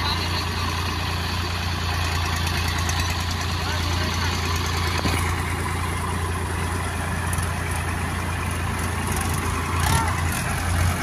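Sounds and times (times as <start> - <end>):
tractor engines running under load: 0.0 - 11.0.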